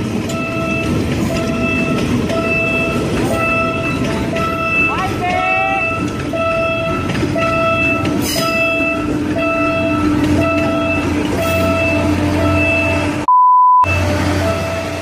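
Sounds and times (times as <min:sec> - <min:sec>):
train passing rumble: 0:00.0 - 0:13.3, 0:13.9 - 0:15.0
steady electronic beep: 0:00.3 - 0:14.8
level crossing alarm beeping: 0:00.3 - 0:15.0.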